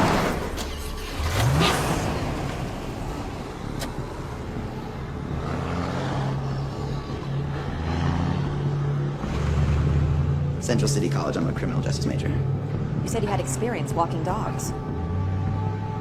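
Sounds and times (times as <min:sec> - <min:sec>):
car engine revving: 0:00.0 - 0:16.0
low engine hum: 0:00.0 - 0:16.0
traffic rumble: 0:00.0 - 0:16.0.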